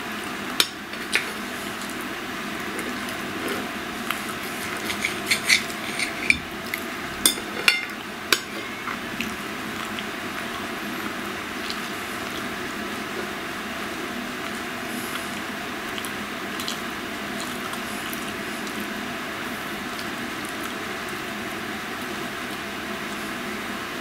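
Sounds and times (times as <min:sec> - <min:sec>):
chewing meat: 0:01.1 - 0:23.4.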